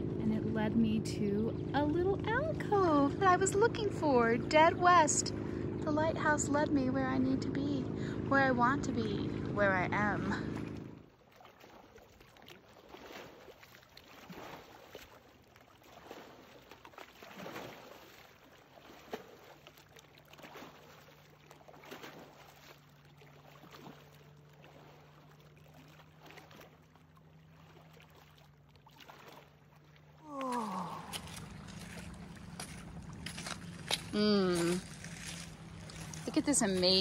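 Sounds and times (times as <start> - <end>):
water splashing and lapping: 0.0 - 37.0.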